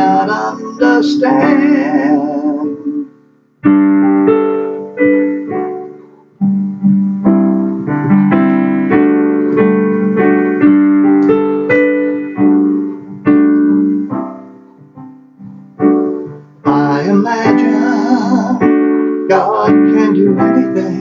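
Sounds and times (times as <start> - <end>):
slow piano notes and chords: 0.0 - 21.0.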